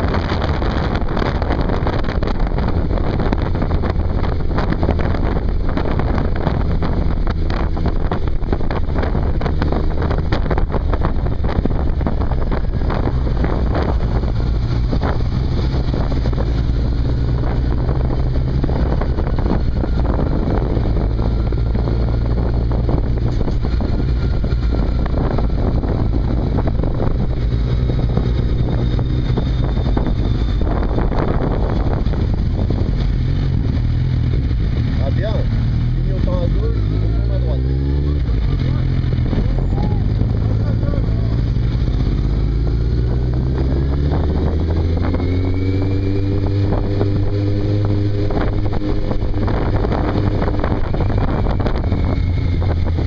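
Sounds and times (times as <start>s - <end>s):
motorcycle engine running: 0.0s - 53.0s
wind buffeting microphone: 0.0s - 53.0s.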